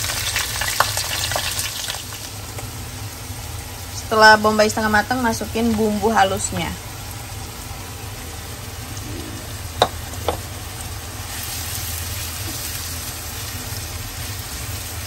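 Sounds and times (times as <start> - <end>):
onions frying in oil: 0.0 - 15.0.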